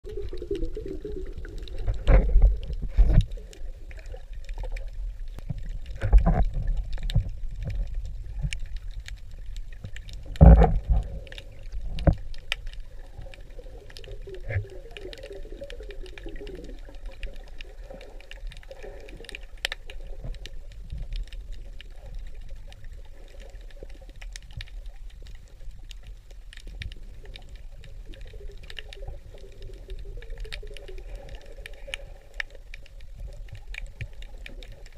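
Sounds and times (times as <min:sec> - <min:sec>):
underwater rumble of moving water: 0:00.0 - 0:34.9.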